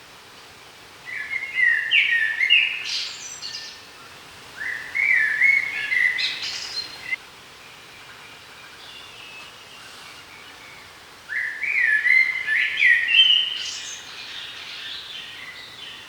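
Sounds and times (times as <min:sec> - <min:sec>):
songbird singing: 0:00.4 - 0:16.0.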